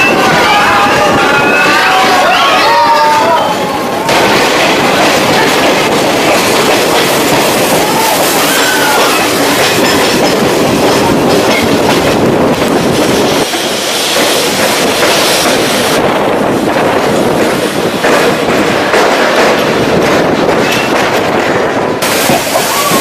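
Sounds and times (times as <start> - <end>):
passenger train running on track: 0.0 - 23.0.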